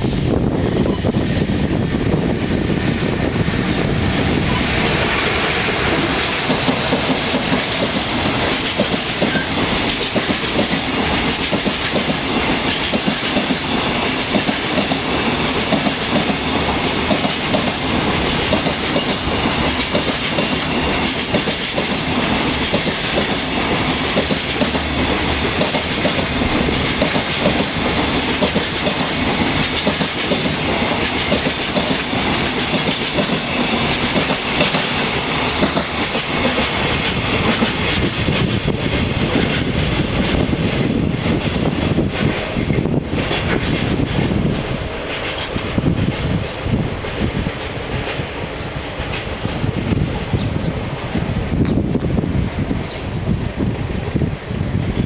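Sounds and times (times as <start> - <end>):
train wheels clattering over rail joints: 0.0 - 52.8.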